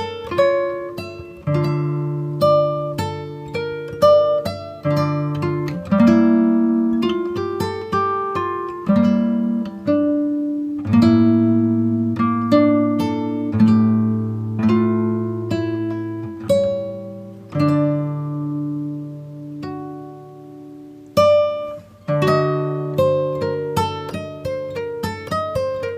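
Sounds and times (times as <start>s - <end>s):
acoustic guitar chords: 0.0s - 25.9s.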